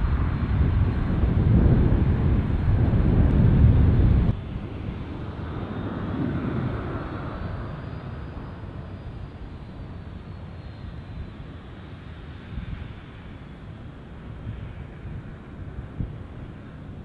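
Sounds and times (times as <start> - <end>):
faint high whine: 0.0 - 17.0
jet engines running on ground: 0.0 - 17.0
loud jet rumble: 0.0 - 17.0
wind on microphone: 0.0 - 17.0.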